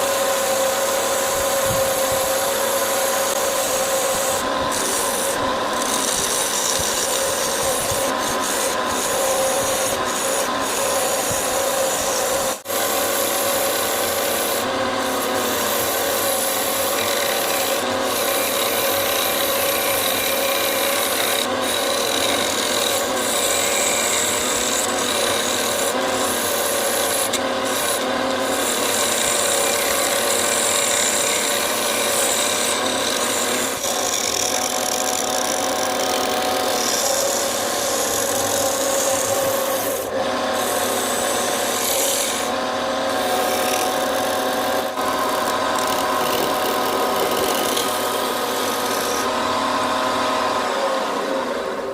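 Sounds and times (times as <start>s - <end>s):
tool rasping on spinning wood: 0.0s - 50.6s
wood lathe humming: 0.0s - 51.9s.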